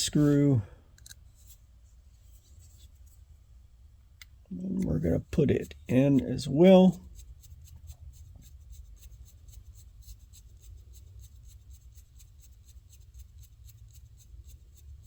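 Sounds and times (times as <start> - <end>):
faint scratching of screw turning: 0.0 - 3.4, 4.8 - 15.0.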